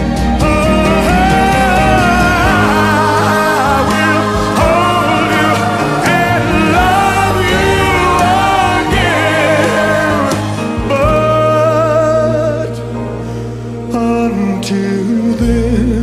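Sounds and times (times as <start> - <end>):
person singing with vibrato: 0.0 - 13.0
sustained accompaniment: 0.0 - 15.3.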